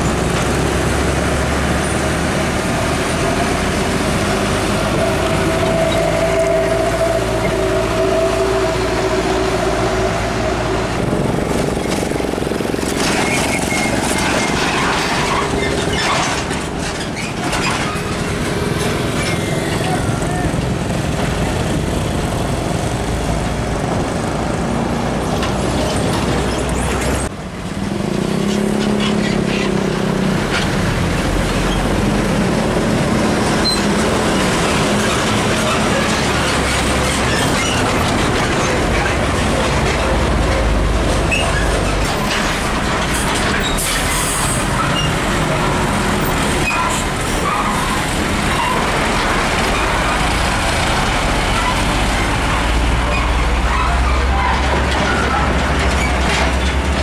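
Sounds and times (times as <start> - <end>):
diesel truck engines passing: 0.0 - 57.0
road traffic noise: 0.0 - 57.0.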